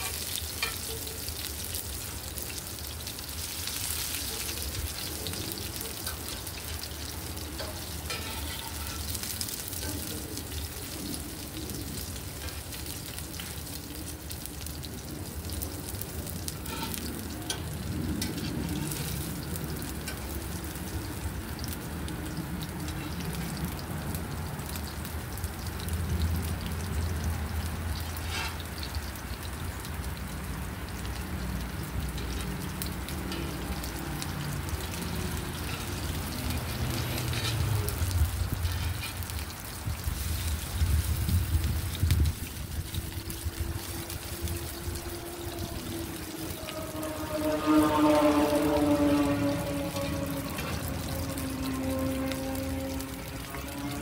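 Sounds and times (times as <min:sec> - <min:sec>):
fritters sizzling in oil: 0:00.0 - 0:54.0.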